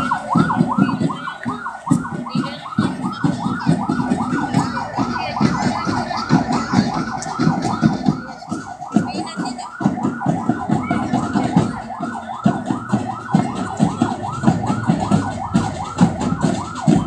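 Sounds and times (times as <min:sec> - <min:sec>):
electronic siren yelping: 0:00.0 - 0:17.0
low beats: 0:00.0 - 0:17.0.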